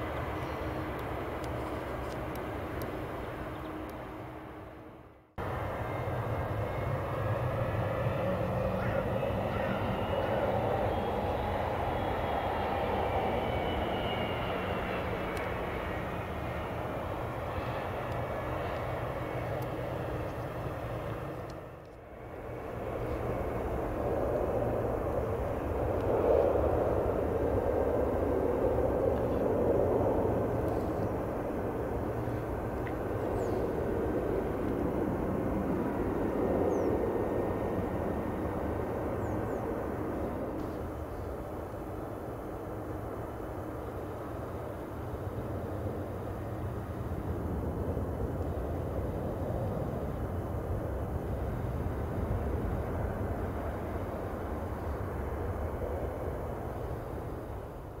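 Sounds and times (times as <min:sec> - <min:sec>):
jet engines rumbling with whine: 0:00.0 - 0:58.0.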